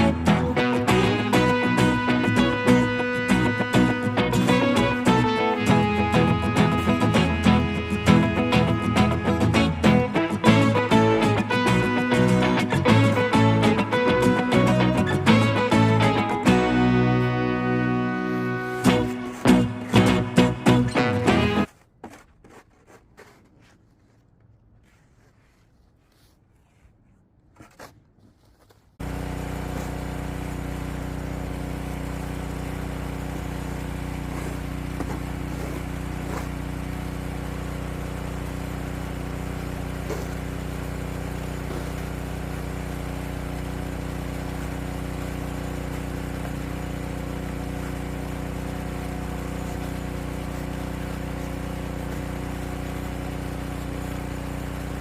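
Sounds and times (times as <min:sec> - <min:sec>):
engine running steadily: 0:00.0 - 0:21.7, 0:29.0 - 0:55.0.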